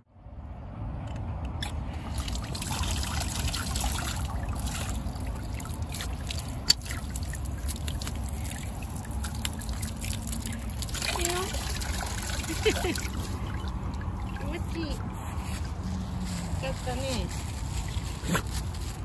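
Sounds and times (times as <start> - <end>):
water splashing on concrete: 1.9 - 19.0.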